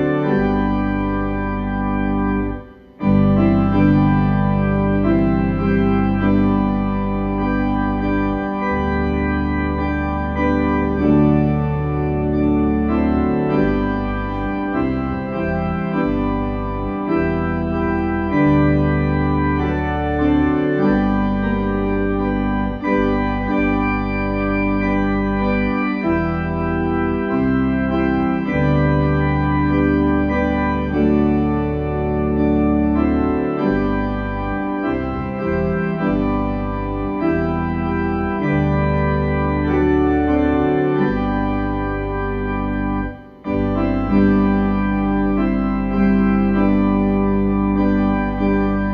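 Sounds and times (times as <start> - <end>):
organ playing sustained chords: 0.0 - 48.9.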